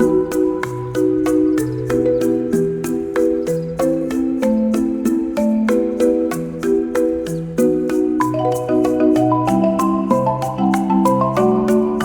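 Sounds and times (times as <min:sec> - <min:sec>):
mallet instrument chords: 0:00.0 - 0:12.0.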